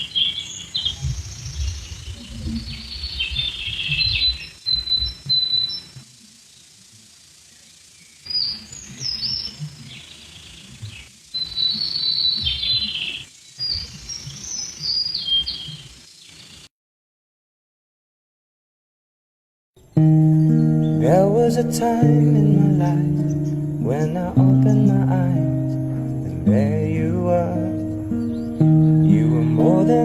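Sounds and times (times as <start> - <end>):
birds chirping and singing: 0.0 - 6.7, 7.4 - 16.7, 19.8 - 30.0.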